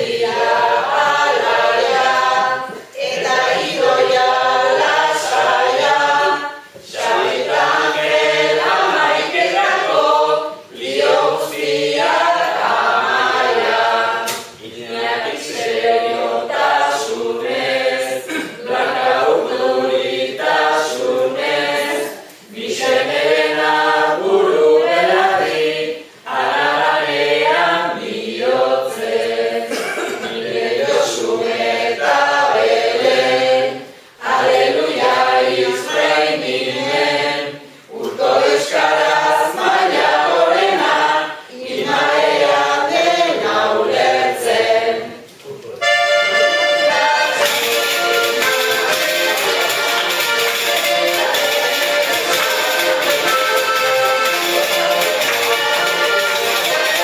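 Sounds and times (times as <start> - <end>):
group of voices singing: 0.0 - 57.0.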